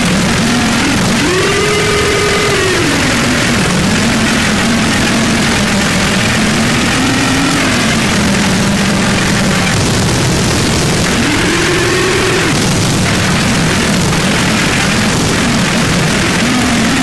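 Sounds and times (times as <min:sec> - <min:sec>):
distorted static noise: 0:00.0 - 0:17.0
low wavering drone: 0:00.0 - 0:17.0.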